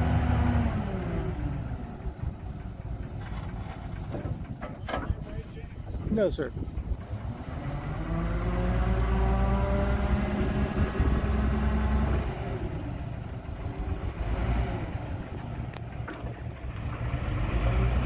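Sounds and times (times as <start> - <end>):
forklift engine revving: 0.0 - 6.0, 6.6 - 18.0.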